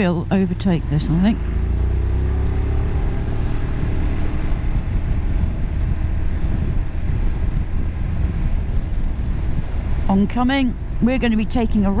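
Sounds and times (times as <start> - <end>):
motorcycle engine accelerating: 0.0 - 11.2
wind rumble on microphone: 0.0 - 12.0.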